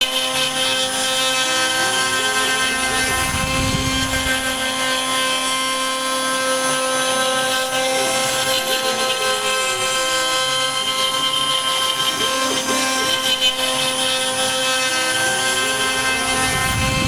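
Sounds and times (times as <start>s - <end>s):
router spindle high whine: 0.0s - 17.0s.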